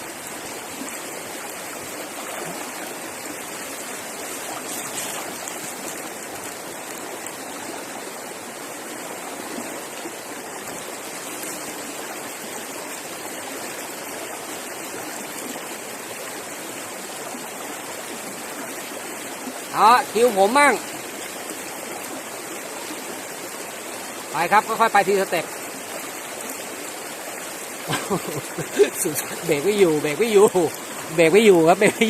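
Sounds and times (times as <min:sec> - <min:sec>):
stream rushing over rapids: 0:00.0 - 0:32.0.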